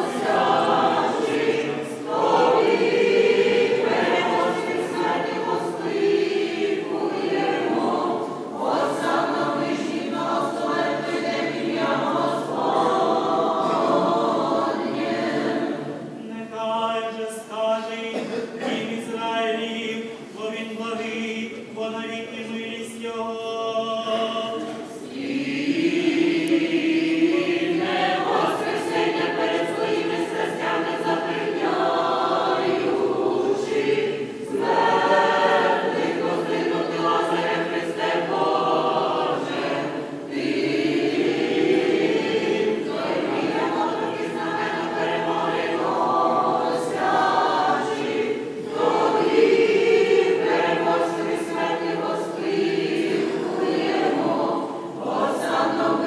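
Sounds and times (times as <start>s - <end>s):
choir chanting unaccompanied: 0.0s - 56.0s.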